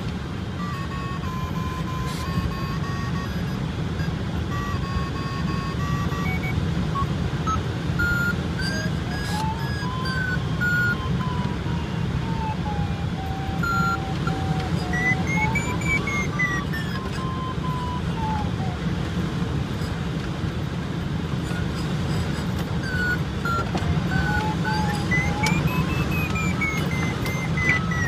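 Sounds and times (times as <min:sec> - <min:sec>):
variometer tone wavering: 0:00.6 - 0:19.0, 0:21.4 - 0:28.0.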